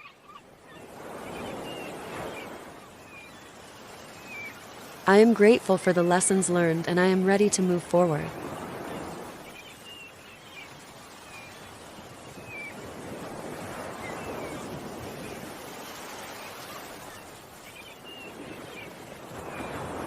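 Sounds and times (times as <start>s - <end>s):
ocean waves washing on shore: 0.0s - 20.0s.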